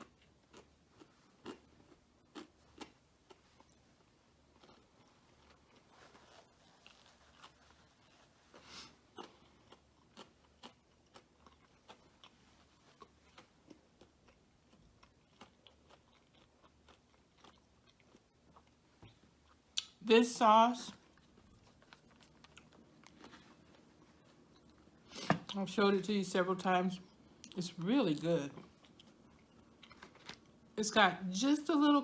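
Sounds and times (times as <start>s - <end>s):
person chewing crunchy food: 0.0s - 20.0s, 21.0s - 25.6s, 28.6s - 30.8s.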